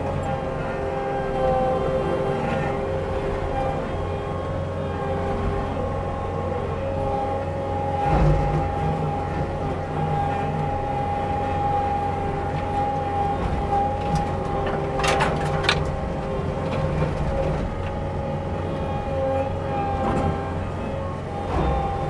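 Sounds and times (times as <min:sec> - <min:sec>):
mulcher engine whine and rumble: 0:00.0 - 0:22.0.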